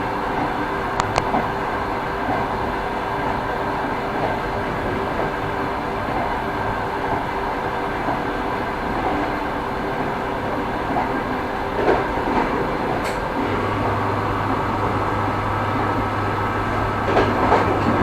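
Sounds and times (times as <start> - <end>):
train rumble: 0.0 - 18.0
train wheels clattering on rails: 0.0 - 18.0.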